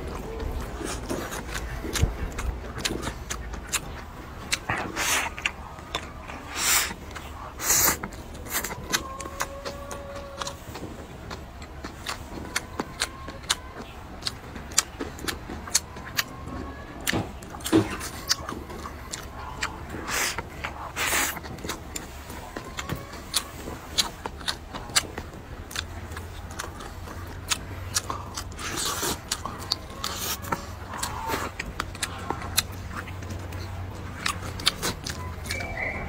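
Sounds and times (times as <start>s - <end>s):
wet chewing and lip smacks: 0.0s - 36.0s.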